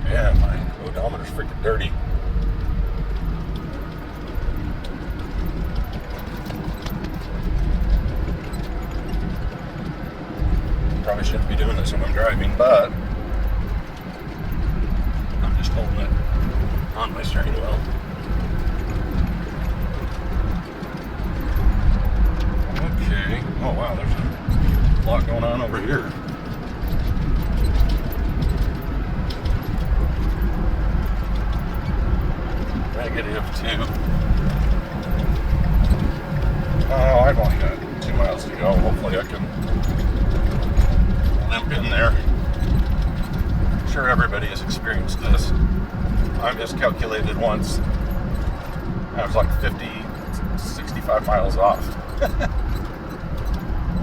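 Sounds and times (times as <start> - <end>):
truck engine and tyres rumbling: 0.0 - 54.0.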